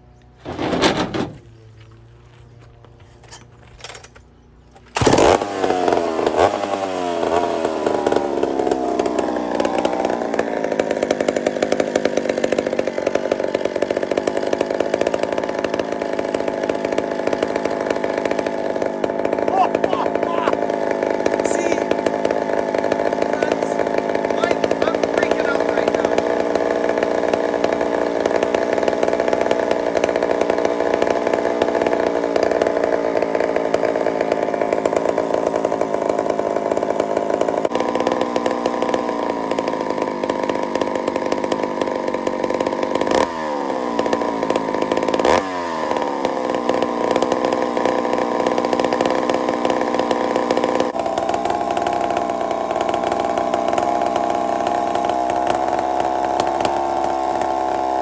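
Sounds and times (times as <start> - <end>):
chainsaw engine idling: 3.6 - 58.0.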